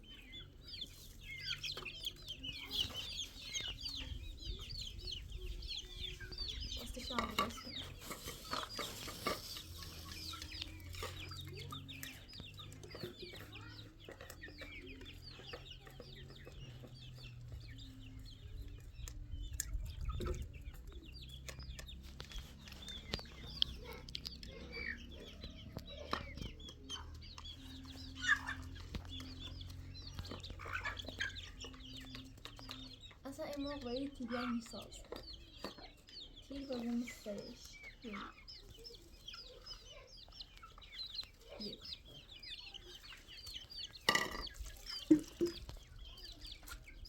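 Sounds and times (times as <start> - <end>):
chickens clucking: 0.0 - 47.0.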